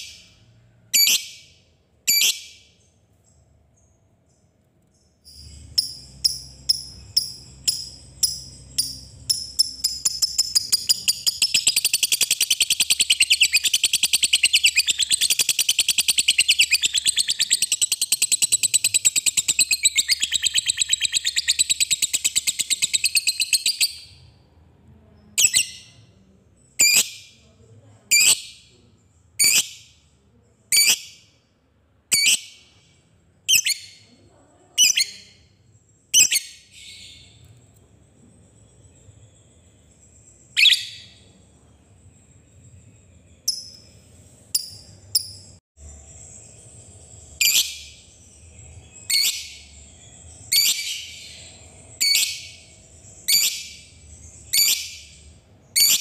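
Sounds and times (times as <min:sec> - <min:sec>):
lovebird chirping and trilling: 0:01.0 - 0:04.4, 0:05.0 - 0:24.3, 0:25.2 - 0:27.4, 0:28.1 - 0:28.7, 0:29.4 - 0:30.0, 0:30.7 - 0:31.3, 0:32.1 - 0:32.8, 0:33.5 - 0:34.2, 0:34.8 - 0:37.5, 0:38.6 - 0:41.4, 0:42.2 - 0:56.0.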